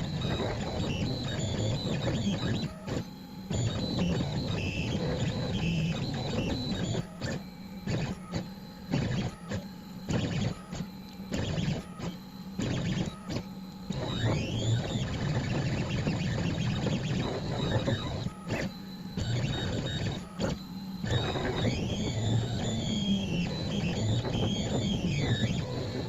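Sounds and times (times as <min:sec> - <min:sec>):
motor whine sweeping in pitch: 0:00.0 - 0:26.0.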